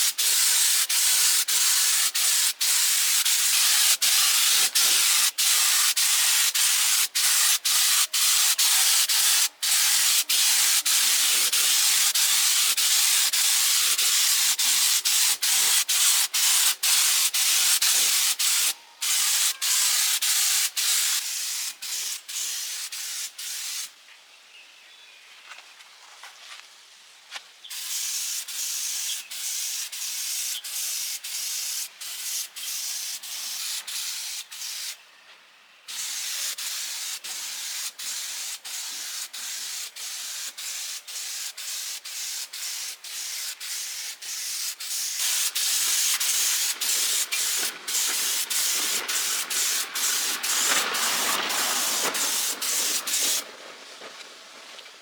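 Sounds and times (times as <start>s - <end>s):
spray gun hissing: 0.0s - 23.9s, 27.7s - 35.0s, 35.9s - 53.4s.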